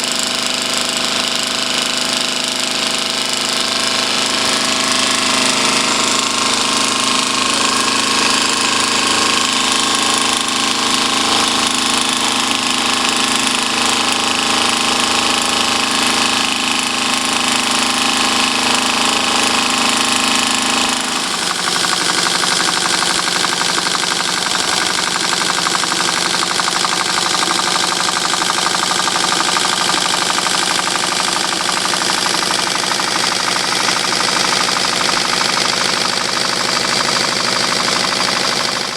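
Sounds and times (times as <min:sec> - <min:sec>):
steam engine running: 0:00.0 - 0:38.9
steam hissing: 0:02.3 - 0:35.0.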